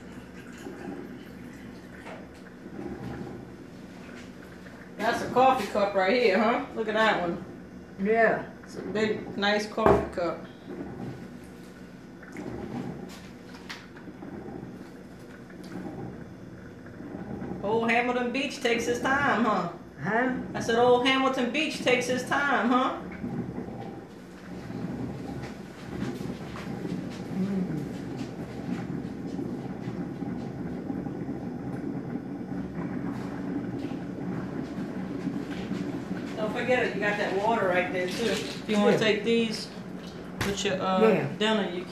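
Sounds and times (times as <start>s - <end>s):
coffee maker percolating: 0.0s - 41.9s.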